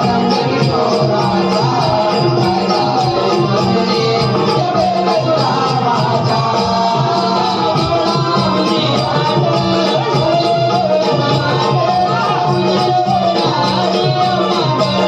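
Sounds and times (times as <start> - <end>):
person singing: 0.0 - 15.0
rhythmic percussion: 0.0 - 15.0.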